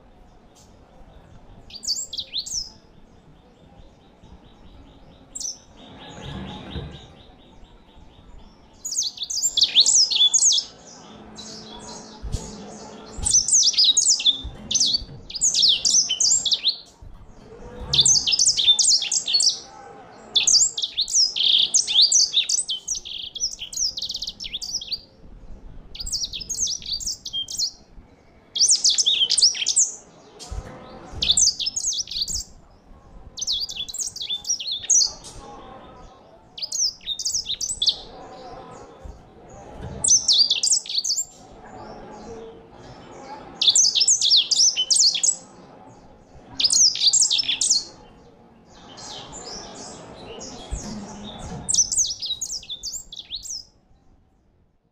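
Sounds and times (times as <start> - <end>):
finch singing: 0.5 - 17.0, 17.8 - 19.7, 20.3 - 25.1, 26.0 - 27.9, 28.5 - 32.6, 33.4 - 35.4, 36.6 - 38.5, 40.0 - 41.5, 43.6 - 53.7.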